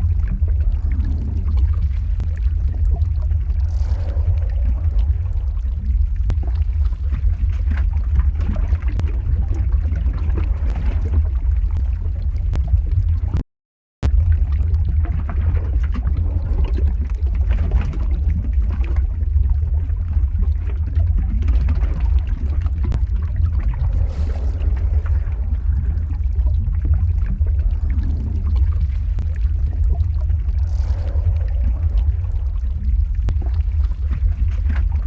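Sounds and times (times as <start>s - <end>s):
deep rumble of lava: 0.0s - 13.4s, 14.0s - 35.0s.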